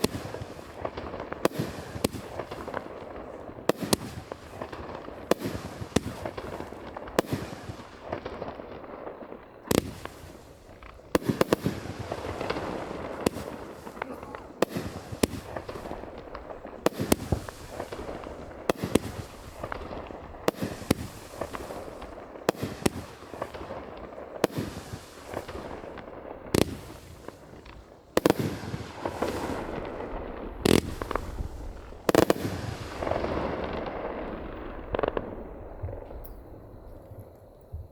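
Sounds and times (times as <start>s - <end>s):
fireworks hissing: 0.0s - 36.4s
fireworks bangs: 0.0s - 37.9s.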